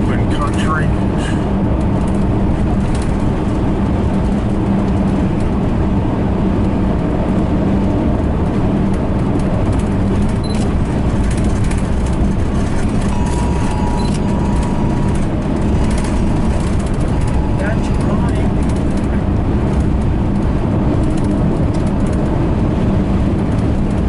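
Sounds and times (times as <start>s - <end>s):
car engine hum: 0.0s - 24.0s
road noise: 0.0s - 24.0s.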